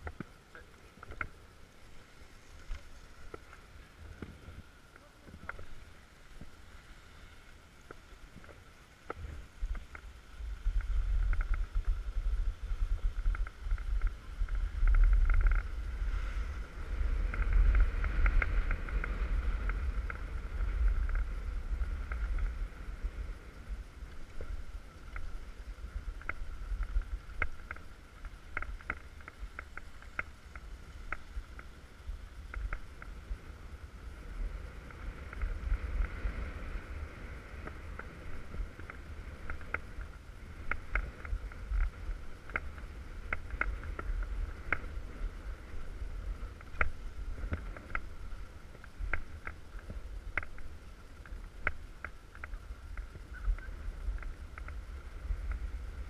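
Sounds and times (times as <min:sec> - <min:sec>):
skis scraping on snow: 0:00.0 - 0:56.0
wind buffeting camera: 0:07.8 - 0:56.0.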